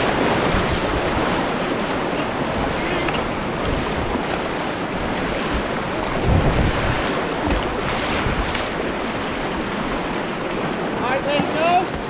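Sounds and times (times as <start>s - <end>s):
rushing whitewater: 0.0s - 12.0s
wind buffeting microphone: 0.0s - 12.0s.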